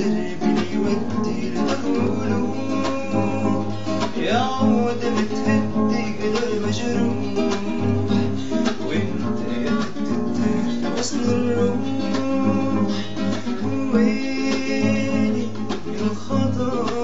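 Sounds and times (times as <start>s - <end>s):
classical guitar strumming: 0.0s - 17.0s
man singing: 0.0s - 17.0s.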